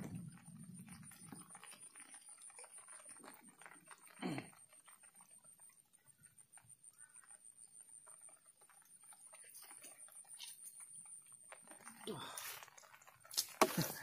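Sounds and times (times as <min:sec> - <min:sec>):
thin high-pitched whine: 0:00.0 - 0:14.0.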